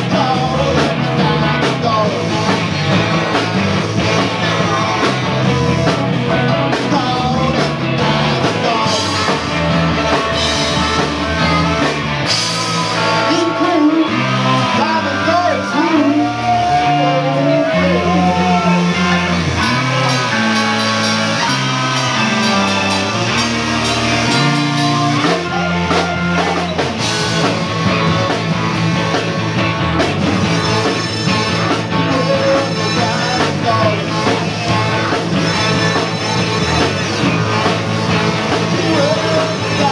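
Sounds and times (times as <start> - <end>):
man singing lead: 0.0 - 28.4, 30.4 - 39.9
bass guitar: 0.0 - 39.9
drum kit: 0.0 - 39.9
electric guitars: 0.0 - 39.9.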